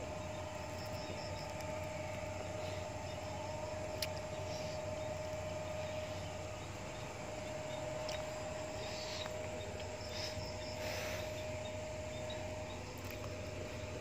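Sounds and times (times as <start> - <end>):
faint chirps: 0.0 - 14.0
high hum: 0.0 - 14.0.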